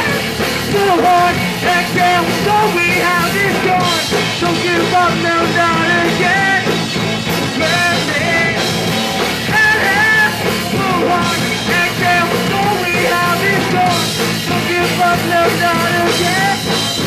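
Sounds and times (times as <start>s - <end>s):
bending melodic guitar line: 0.0s - 17.0s
punk rock band playing live: 0.0s - 17.0s.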